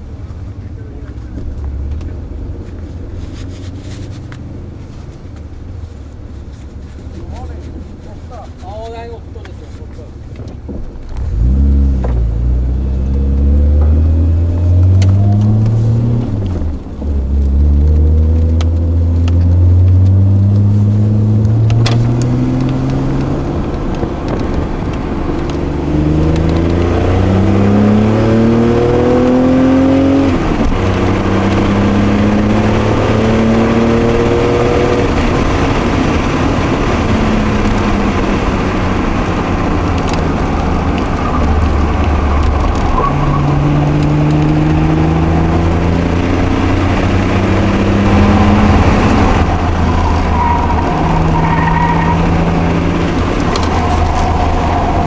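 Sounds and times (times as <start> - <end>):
car engine revving through gears: 10.4 - 55.0.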